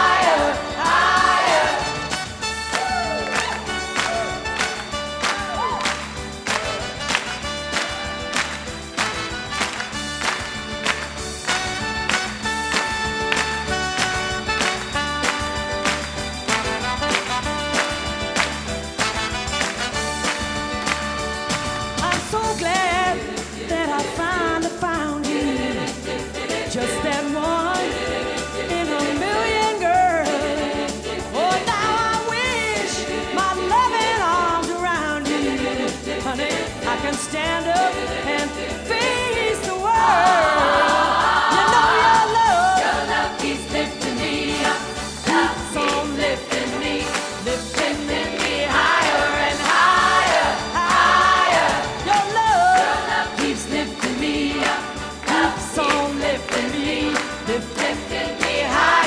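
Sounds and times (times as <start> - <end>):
choir singing soul song: 0.0 - 17.8, 20.8 - 59.0.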